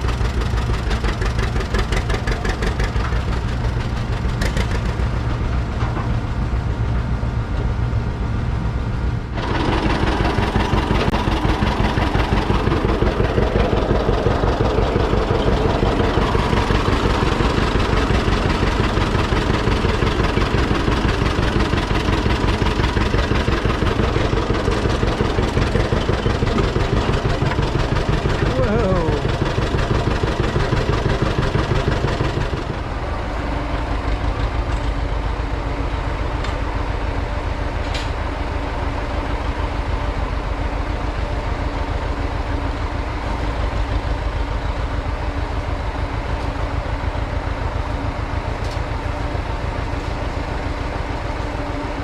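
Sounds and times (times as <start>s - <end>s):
engine running with low throb: 0.0s - 52.0s.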